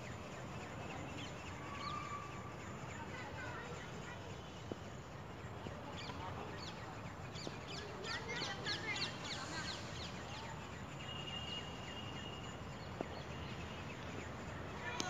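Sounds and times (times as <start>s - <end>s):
low outdoor background noise: 0.0s - 15.0s
small birds chirping: 0.0s - 15.0s
thin steady bird whistle: 0.0s - 15.0s.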